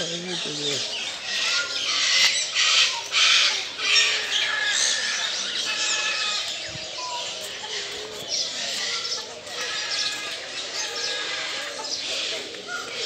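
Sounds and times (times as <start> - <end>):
birds chirping and whistling: 0.0 - 13.0
birds squawking: 0.0 - 13.0.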